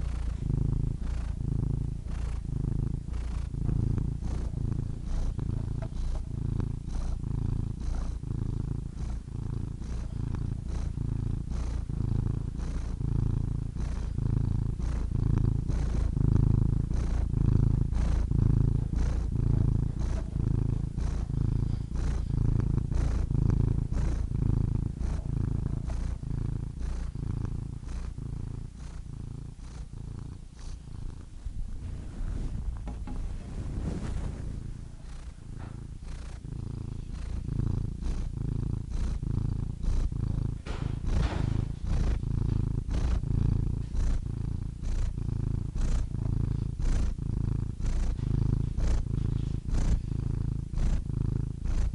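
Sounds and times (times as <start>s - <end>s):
cat purring: 0.0s - 51.9s.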